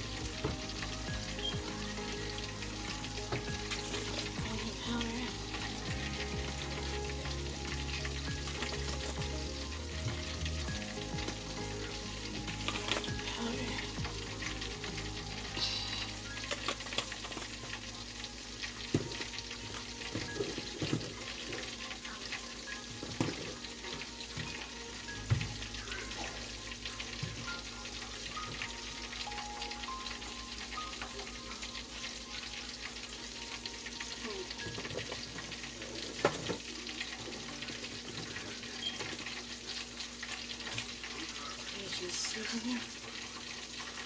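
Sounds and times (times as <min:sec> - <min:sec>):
food sizzling on a stove: 0:00.0 - 0:44.0.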